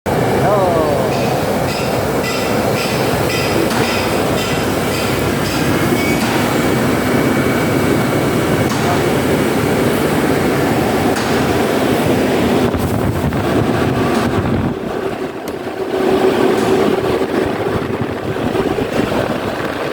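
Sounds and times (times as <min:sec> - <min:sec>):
air-conditioning unit droning: 0:00.1 - 0:19.9.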